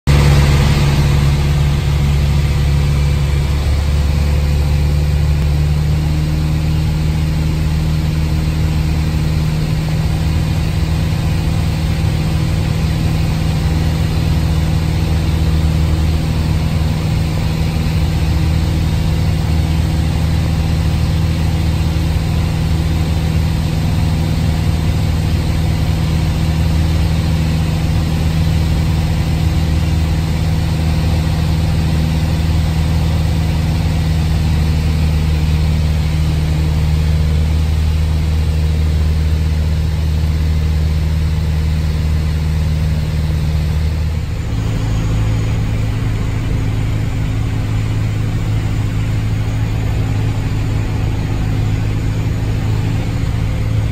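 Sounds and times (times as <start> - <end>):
light aircraft engine droning: 0.1 - 53.9.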